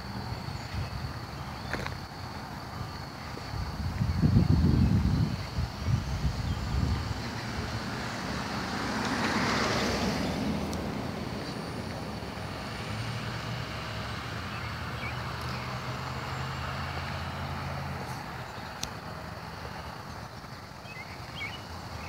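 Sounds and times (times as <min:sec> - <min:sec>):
car passing: 0:00.0 - 0:22.0
vehicle engine hum: 0:00.0 - 0:22.0.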